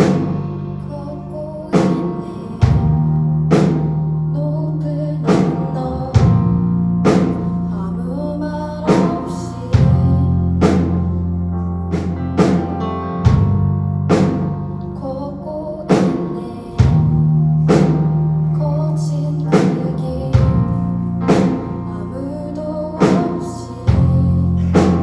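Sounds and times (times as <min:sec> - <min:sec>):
held bass notes: 0:00.0 - 0:25.0.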